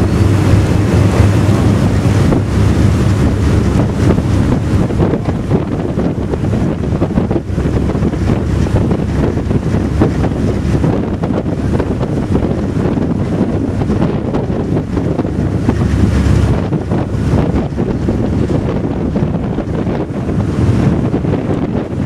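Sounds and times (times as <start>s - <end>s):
strong wind buffeting microphone: 0.0s - 22.0s
water rushing from boat wake: 0.0s - 22.0s.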